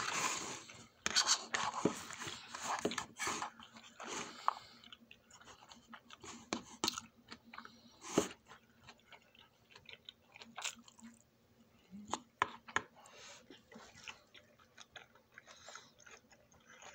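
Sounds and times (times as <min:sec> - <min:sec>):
person chewing food: 0:00.0 - 0:16.9.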